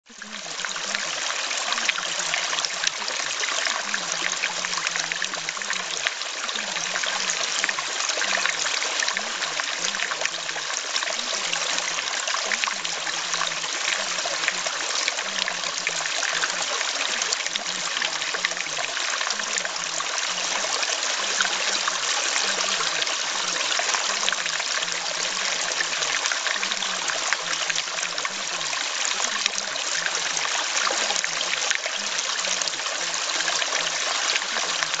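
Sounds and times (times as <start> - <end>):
trickling water: 0.0 - 35.0.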